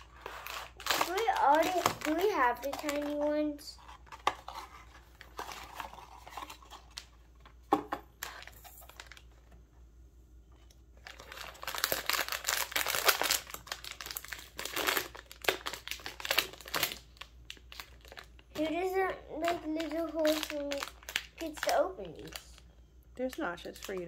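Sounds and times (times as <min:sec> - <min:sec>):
foil packet crinkling and tearing: 0:00.0 - 0:07.2, 0:08.2 - 0:09.4, 0:11.0 - 0:24.0.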